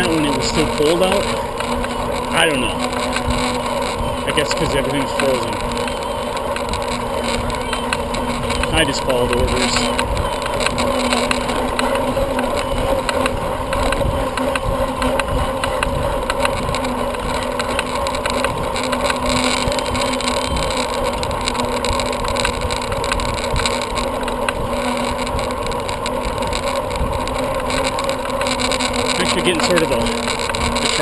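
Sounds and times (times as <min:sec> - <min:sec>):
wind over microphone: 0:00.0 - 0:28.0
bicycle tyres rolling: 0:00.0 - 0:31.0
faint even hum: 0:00.0 - 0:31.0.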